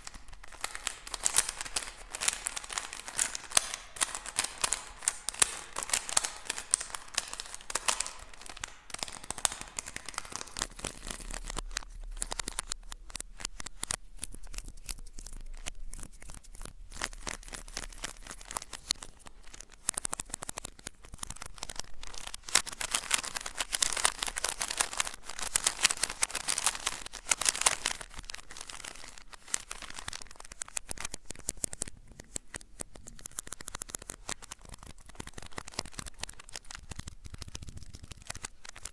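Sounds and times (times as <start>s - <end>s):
objects crinkled and scratched: 0.0s - 38.9s.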